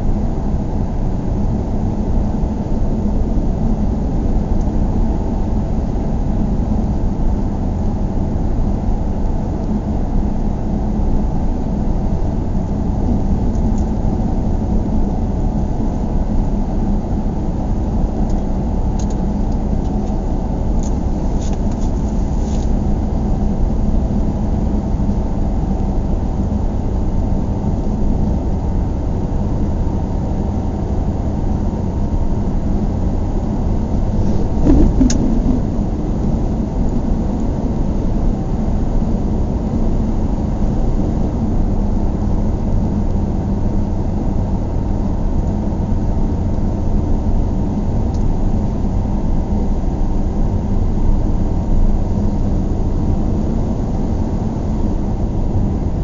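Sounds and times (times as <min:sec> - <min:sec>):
vehicle rumble in motion: 0:00.0 - 0:56.0.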